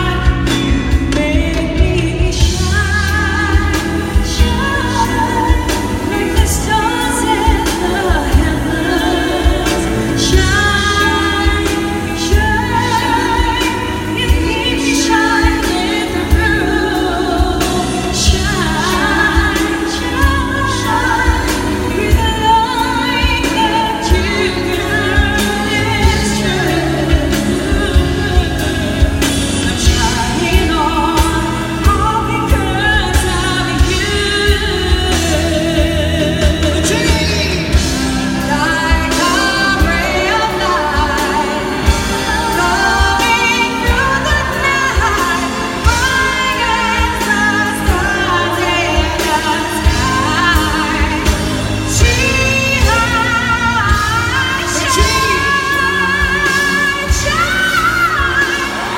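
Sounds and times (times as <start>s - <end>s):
band with steady drum beat: 0.0s - 58.9s
person singing a pop ballad: 0.0s - 58.9s.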